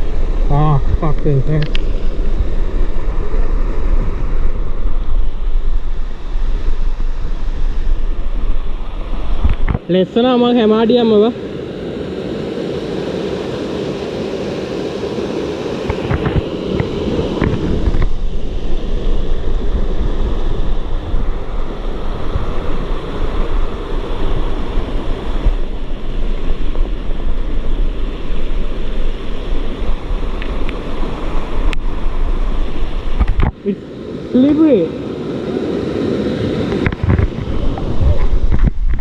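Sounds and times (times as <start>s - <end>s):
steady rushing rumble: 0.0s - 39.0s
wind buffeting microphone: 0.0s - 39.0s.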